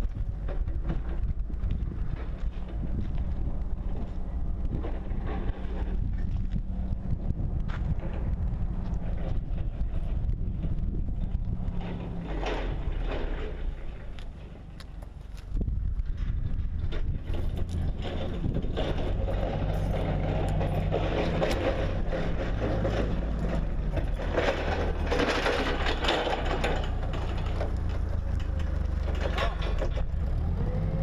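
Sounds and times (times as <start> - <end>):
rattles: 0.0 - 31.0
vehicle engine humming: 0.0 - 31.0.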